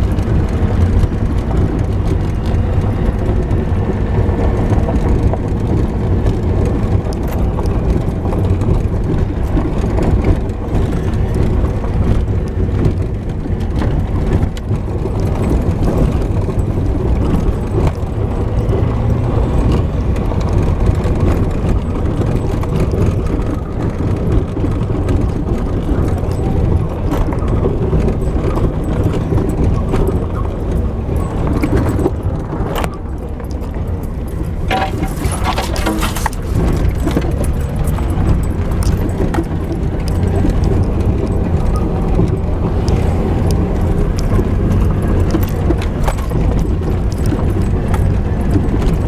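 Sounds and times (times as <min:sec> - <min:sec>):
engine and tyre drone: 0:00.0 - 0:49.0
rattles and knocks from bumps: 0:00.0 - 0:49.0.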